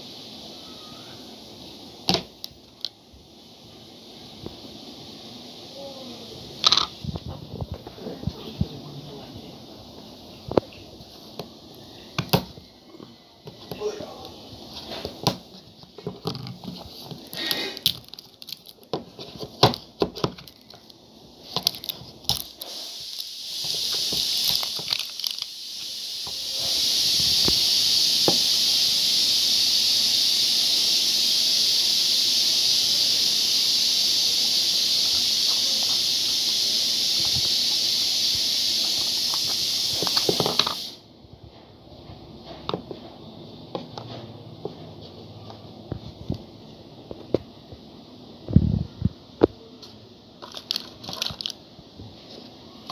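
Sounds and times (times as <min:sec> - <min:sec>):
loud steady hiss: 0:00.0 - 0:52.9.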